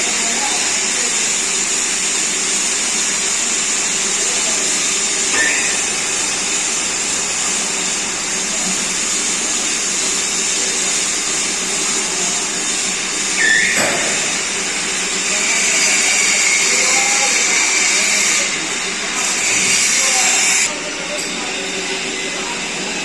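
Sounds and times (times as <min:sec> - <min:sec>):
metal lathe whirring: 0:00.0 - 0:23.0.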